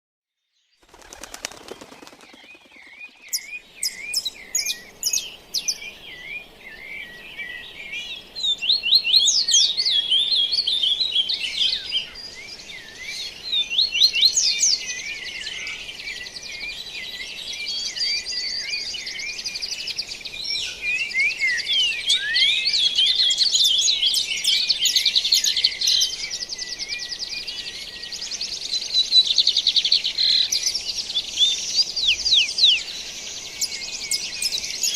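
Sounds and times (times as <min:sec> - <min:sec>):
songbirds chirping and trilling: 0:00.6 - 0:34.9.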